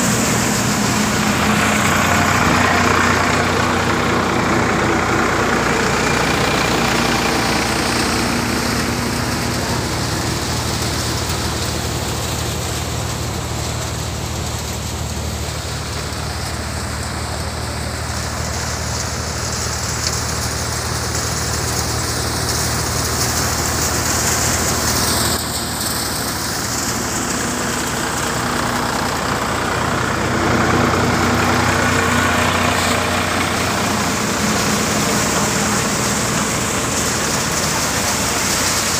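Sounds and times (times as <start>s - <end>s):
thresher rushing noise: 0.0s - 38.9s
tractor engine drone: 0.0s - 38.9s.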